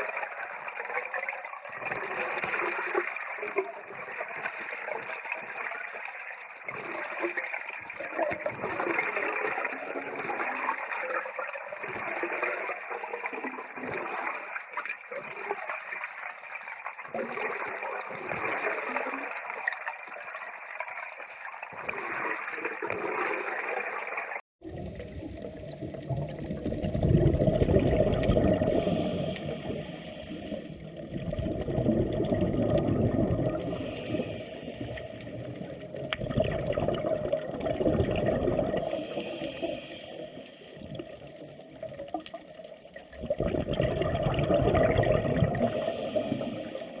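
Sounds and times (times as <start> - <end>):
sea water sloshing: 0.0 - 47.0.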